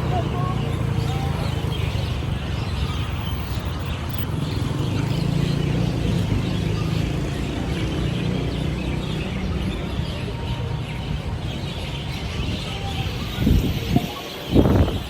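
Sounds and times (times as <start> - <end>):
road traffic rumble: 0.0 - 15.0
small birds chirping: 0.0 - 15.0.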